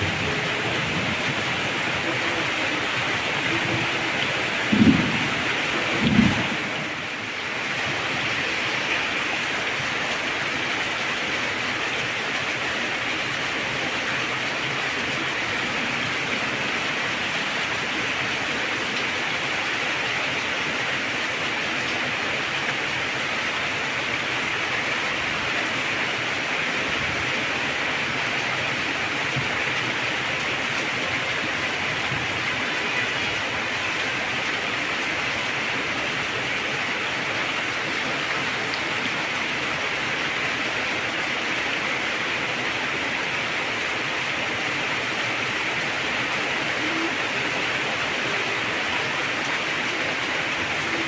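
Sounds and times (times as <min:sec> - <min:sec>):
heavy rain hissing: 0:00.0 - 0:51.0.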